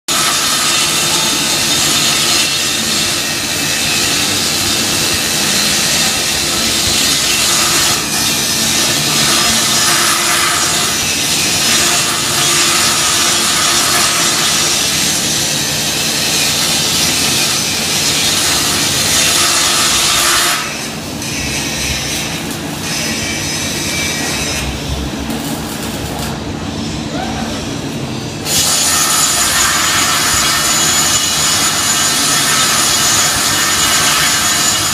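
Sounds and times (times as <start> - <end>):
welding arc hissing and crackling: 0.1 - 26.8, 28.4 - 34.9
machine noise: 0.1 - 34.9.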